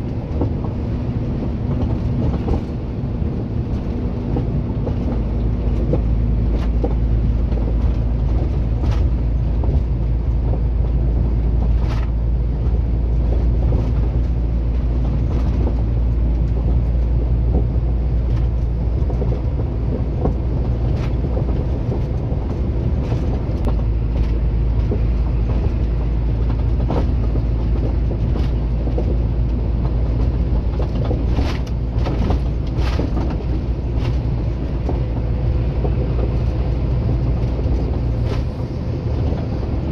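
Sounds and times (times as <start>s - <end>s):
cab creaks and rattles: 0.0s - 39.9s
truck engine and road drone: 0.0s - 39.9s.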